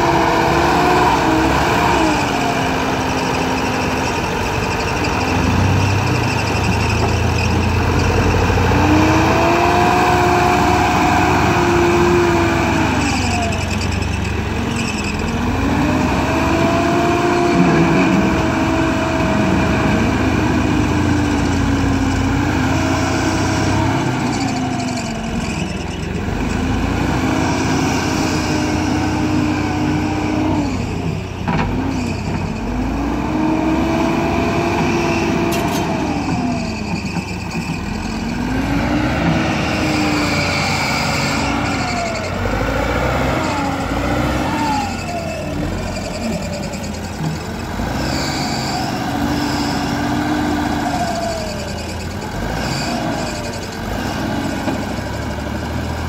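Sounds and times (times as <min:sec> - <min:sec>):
backhoe diesel engine revving: 0:00.0 - 0:56.0.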